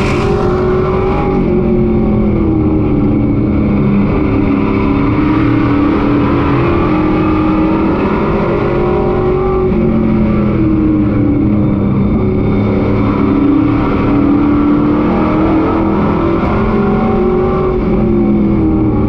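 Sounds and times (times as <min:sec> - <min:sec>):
race truck engine: 0:00.0 - 0:19.0.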